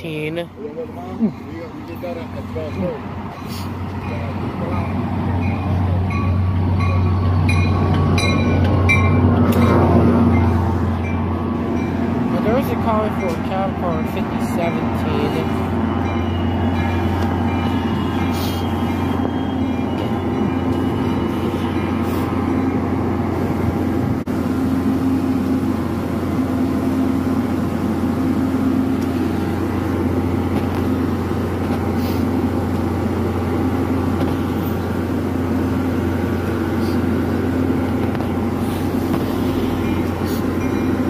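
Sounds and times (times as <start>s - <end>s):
diesel train mechanical drone: 0.0s - 41.0s.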